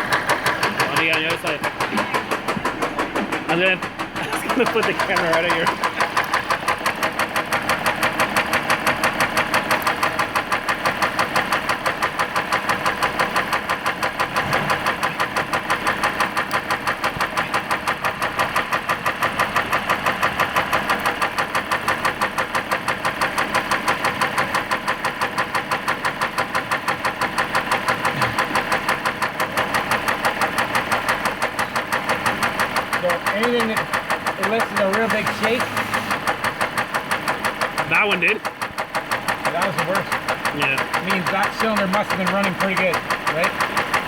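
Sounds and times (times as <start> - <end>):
diesel engine idling with knock: 0.0 - 44.0.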